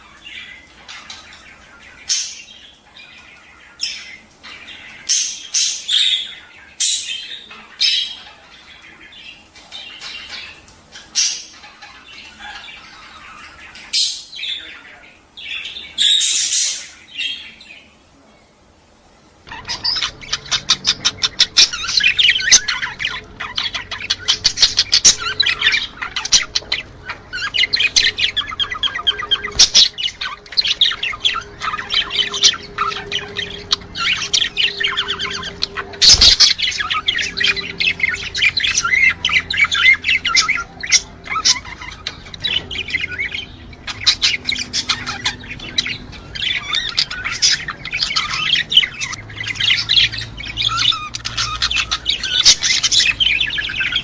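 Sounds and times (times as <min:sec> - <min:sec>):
budgerigars chirping and warbling: 0:00.0 - 0:18.3, 0:19.2 - 0:54.0.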